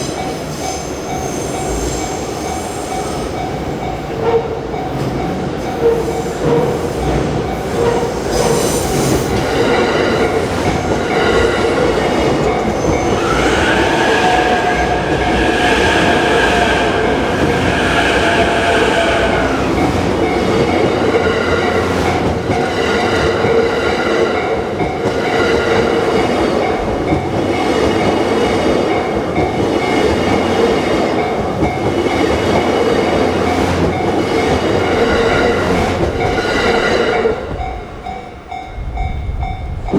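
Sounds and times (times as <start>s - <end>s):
crossing warning bell ringing: 0.0s - 39.9s
train running on rails: 0.0s - 39.9s.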